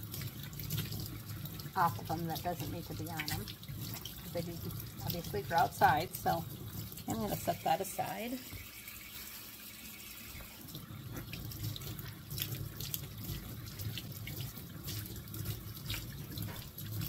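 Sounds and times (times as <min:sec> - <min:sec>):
tap water running into sink: 0:00.0 - 0:17.0
water splashing over vegetables: 0:00.0 - 0:17.0.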